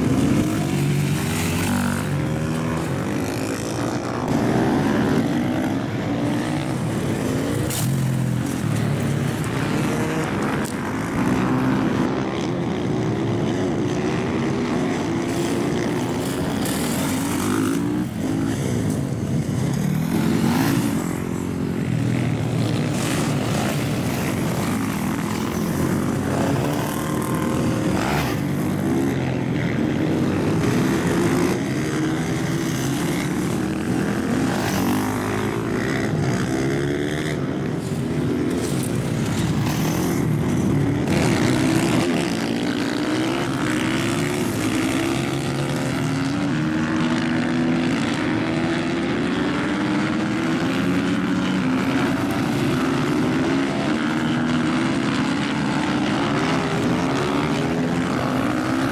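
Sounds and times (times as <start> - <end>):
racing motorcycles revving: 0.0 - 58.9.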